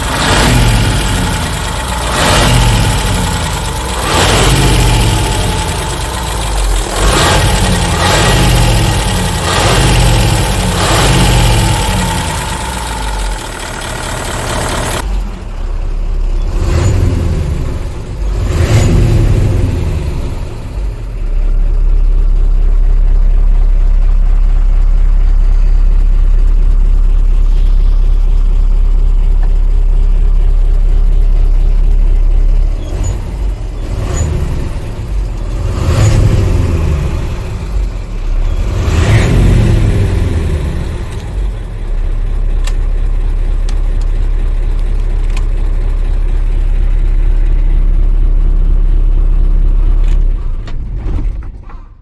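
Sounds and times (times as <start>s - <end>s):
diesel truck engine revving: 0.0s - 52.0s
low engine drone: 0.0s - 52.0s.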